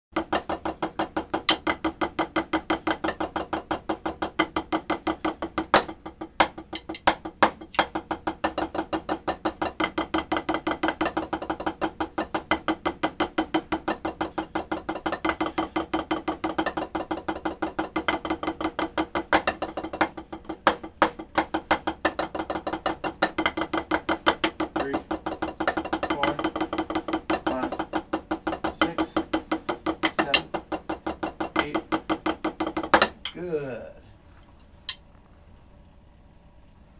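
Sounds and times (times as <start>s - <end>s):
snare drum strokes: 0.2s - 33.3s.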